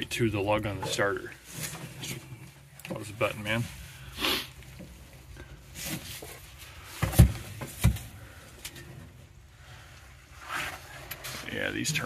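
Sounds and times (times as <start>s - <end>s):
faint cable rustle: 0.5s - 12.0s.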